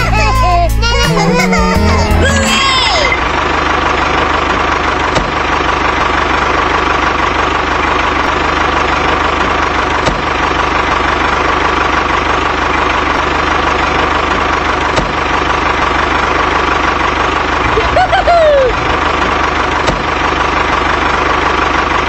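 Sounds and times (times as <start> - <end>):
engine running with low chugging: 0.0 - 22.0.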